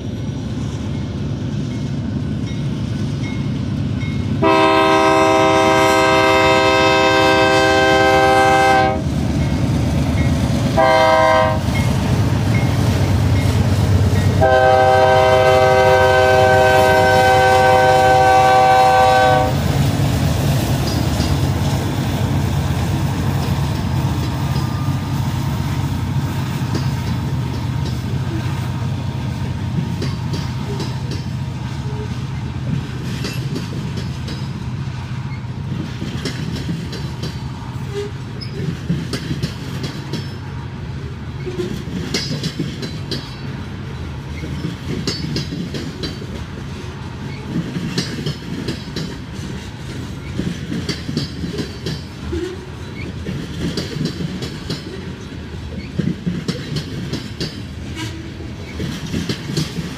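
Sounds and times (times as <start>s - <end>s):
diesel locomotive rumble: 0.0s - 59.9s
train wheels clicking over rail joints: 0.0s - 59.9s.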